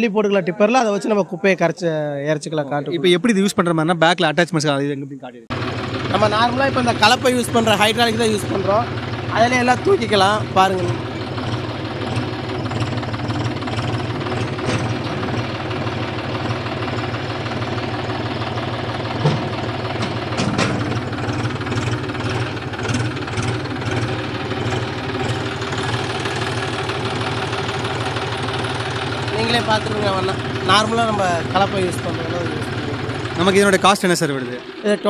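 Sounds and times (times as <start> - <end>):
tractor diesel engine running: 5.5 - 35.0.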